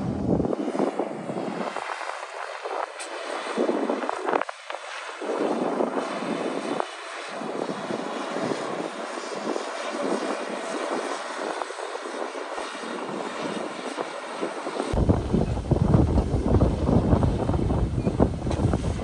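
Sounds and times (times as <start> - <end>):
combine harvester drone: 0.0 - 19.0.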